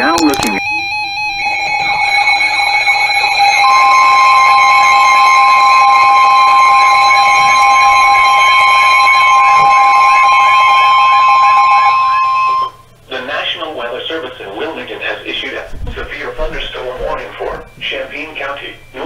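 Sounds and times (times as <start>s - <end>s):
electronic alarm warble: 0.0s - 13.0s, 16.0s - 19.0s
steady warning alarm tone: 0.0s - 19.0s.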